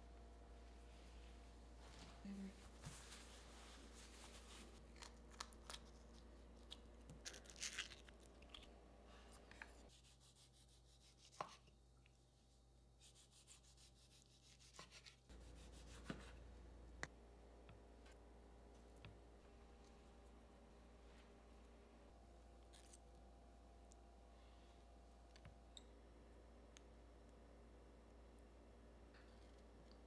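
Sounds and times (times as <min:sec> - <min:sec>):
low steady hum: 0:00.0 - 0:14.4, 0:15.0 - 0:30.0.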